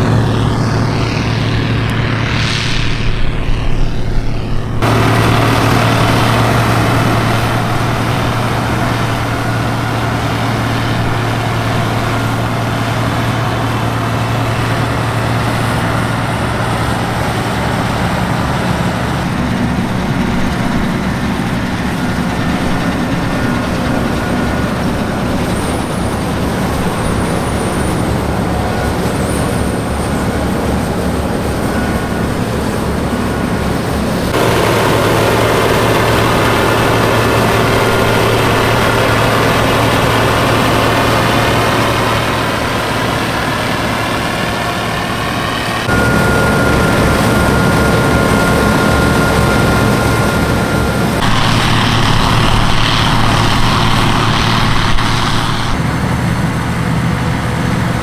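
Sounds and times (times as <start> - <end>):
combine harvester diesel engine: 0.0 - 58.0.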